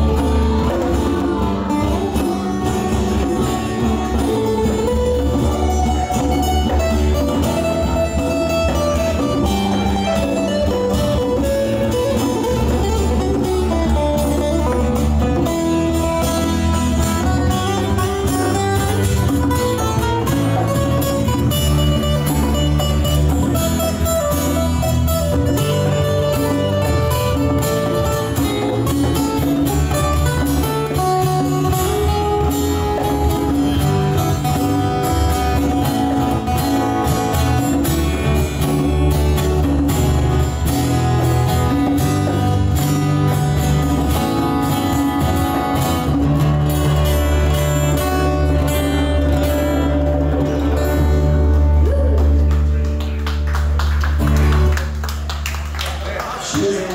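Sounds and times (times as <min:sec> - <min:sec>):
strummed acoustic guitars: 0:00.0 - 0:55.4
electric bass guitar: 0:00.0 - 0:56.0
congas: 0:00.0 - 0:56.9.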